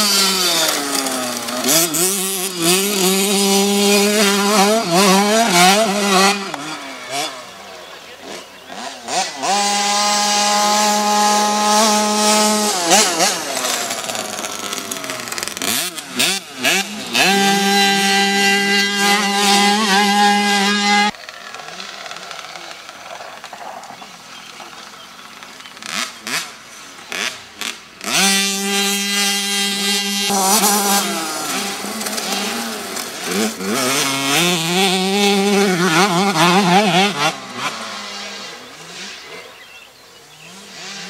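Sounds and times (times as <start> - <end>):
motocross bikes revving past: 0.0 - 41.0.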